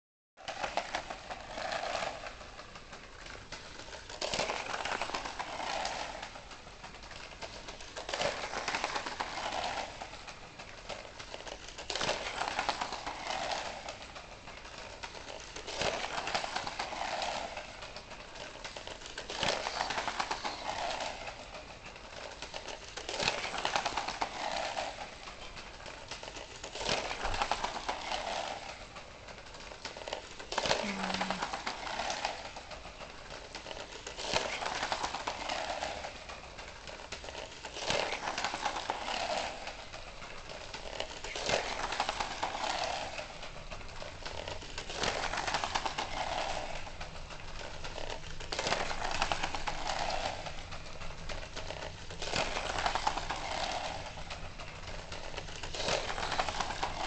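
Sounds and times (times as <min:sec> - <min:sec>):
toy kart rolling on plastic track: 0:00.4 - 0:57.0.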